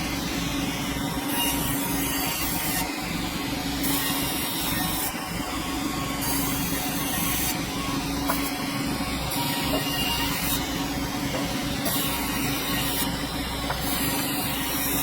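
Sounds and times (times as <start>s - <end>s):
sawmill machinery humming: 1.2s - 15.0s.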